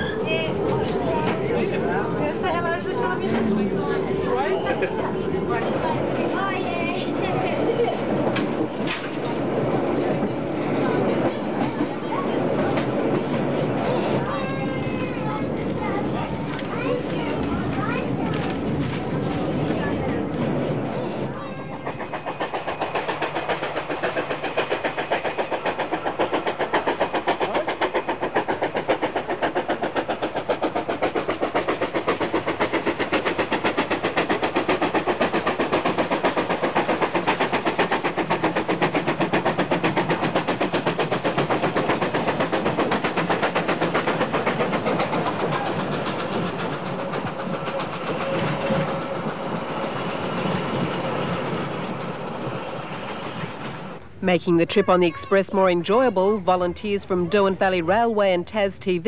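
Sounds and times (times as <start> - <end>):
steam locomotive exhaust beating: 0.0 - 59.0.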